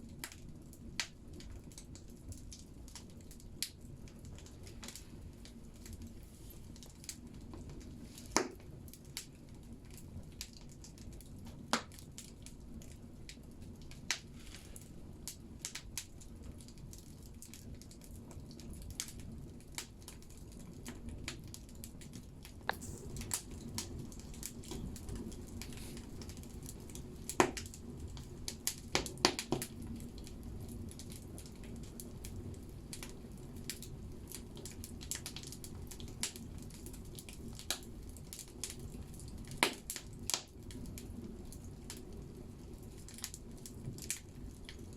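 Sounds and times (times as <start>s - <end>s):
fire crackling and popping: 0.0s - 44.9s
fire rumbling: 0.0s - 44.9s.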